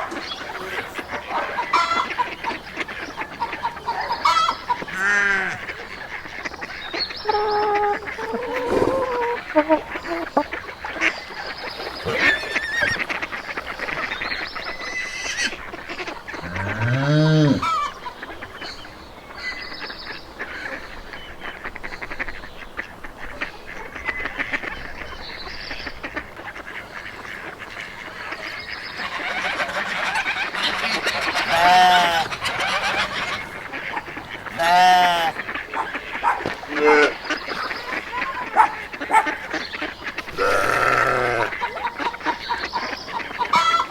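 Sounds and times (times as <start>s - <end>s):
flock of fowl calling: 0.0s - 43.9s.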